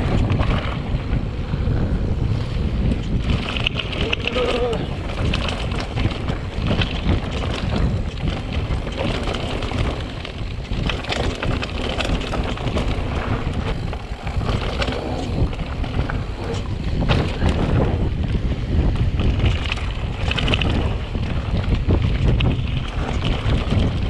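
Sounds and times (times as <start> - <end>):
bike rattling clicks: 0.0 - 24.0
rumble of bike tyres on dirt: 0.0 - 24.0
wind buffeting microphone: 0.0 - 24.0.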